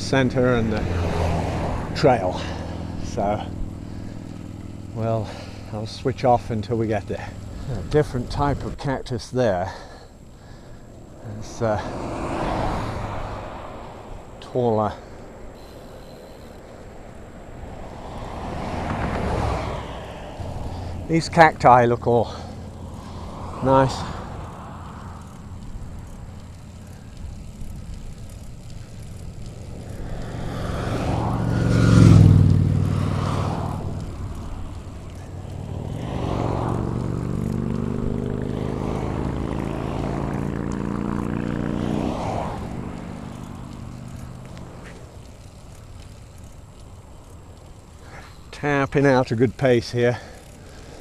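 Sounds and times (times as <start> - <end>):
motor vehicle passing: 0.0 - 51.0
road and wind noise: 0.0 - 51.0
steady engine hum: 0.0 - 51.0.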